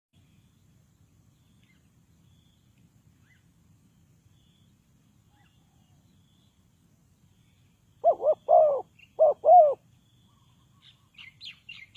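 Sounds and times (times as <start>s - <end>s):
distant bird chirps: 0.2s - 11.9s.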